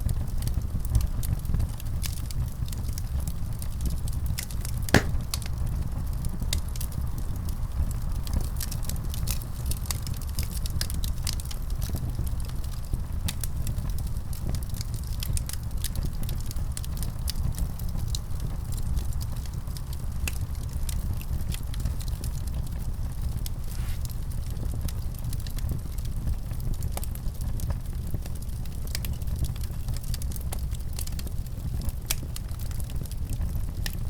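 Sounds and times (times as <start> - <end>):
fire crackling and popping: 0.1 - 34.0
fire flames rumbling: 5.0 - 34.0.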